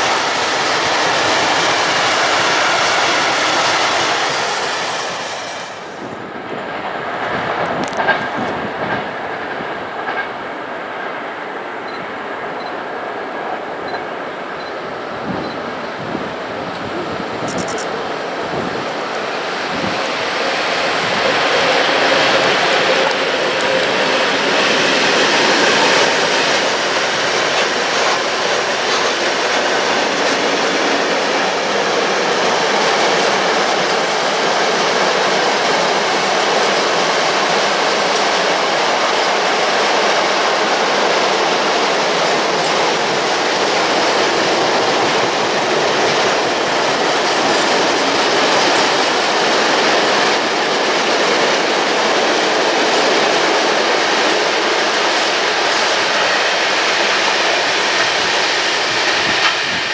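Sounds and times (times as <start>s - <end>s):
wagon wheels rolling on rails: 0.0s - 10.4s, 15.2s - 59.9s
freight train passing: 0.0s - 59.9s.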